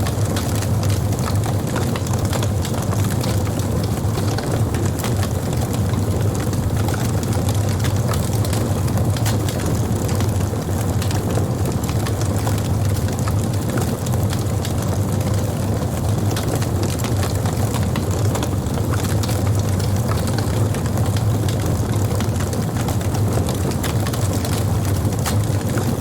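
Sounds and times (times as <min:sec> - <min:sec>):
campfire low rumble: 0:00.0 - 0:26.0
wood crackling and popping: 0:00.0 - 0:26.0.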